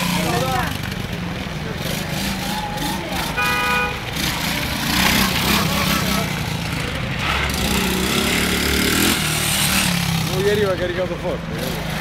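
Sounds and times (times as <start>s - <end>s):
quad bike engine revving: 1.7s - 12.0s.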